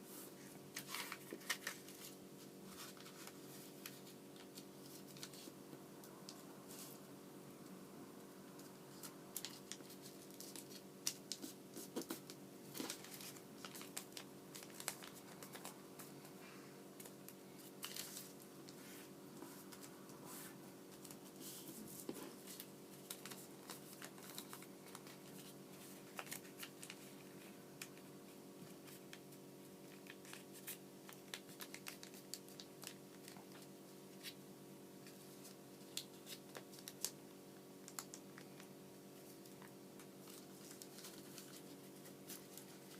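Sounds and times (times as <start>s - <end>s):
paper rustling and creasing: 0.7s - 5.6s, 8.6s - 29.2s, 29.8s - 34.4s, 37.9s - 42.9s.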